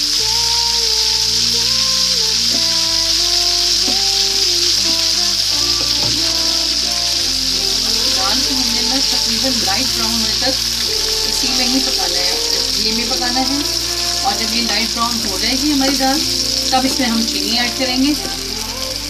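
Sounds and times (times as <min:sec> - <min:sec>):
background music: 0:00.0 - 0:19.0
paste sizzling in frying pan: 0:00.0 - 0:19.0.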